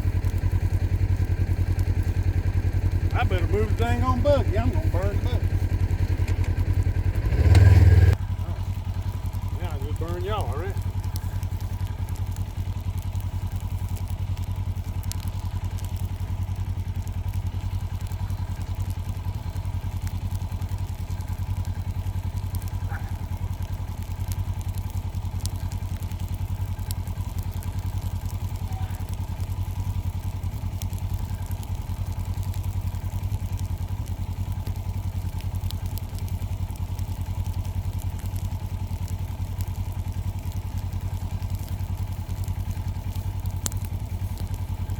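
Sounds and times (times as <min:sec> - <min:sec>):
buggy engine running steadily: 0:00.0 - 0:44.9.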